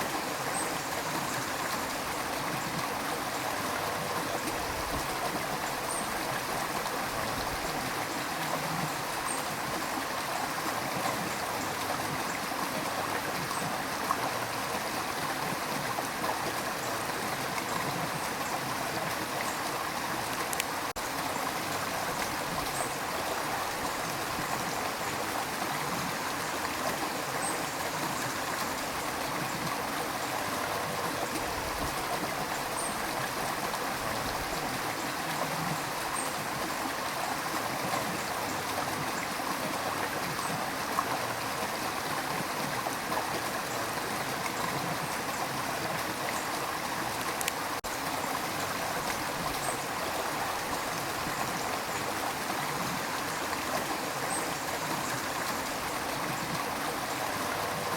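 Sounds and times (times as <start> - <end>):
river water rushing over stones: 0.0 - 57.9.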